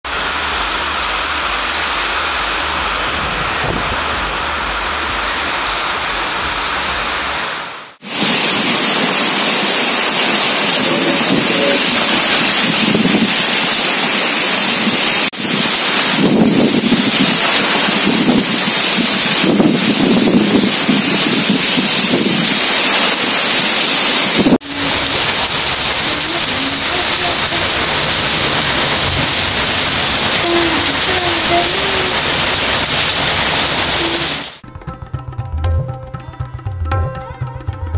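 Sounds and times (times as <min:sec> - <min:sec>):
heavy rain in strong wind: 0:00.0 - 0:34.6.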